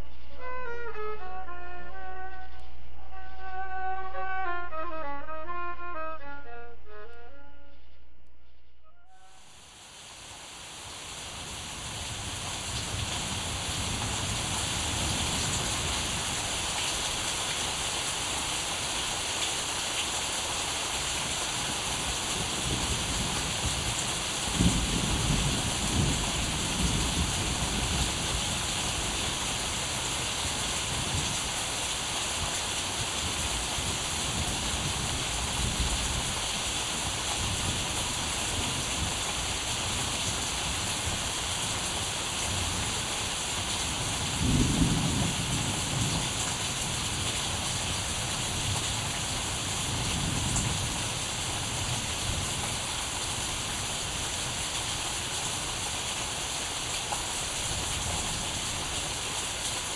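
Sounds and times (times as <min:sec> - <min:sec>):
rain-like hiss: 0:09.2 - 0:59.9.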